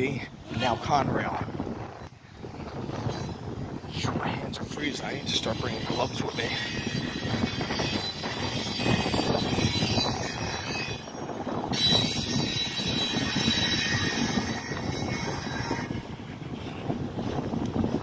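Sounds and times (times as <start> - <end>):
train wheels rumbling on rail: 1.9 - 18.0.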